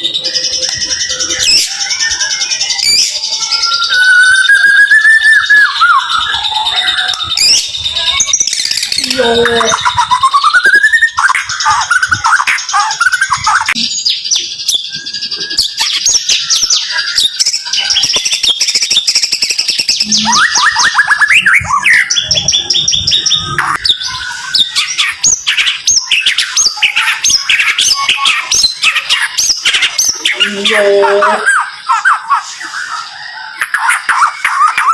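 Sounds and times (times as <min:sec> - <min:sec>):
songbird whistles and trills: 0:00.0 - 0:34.9.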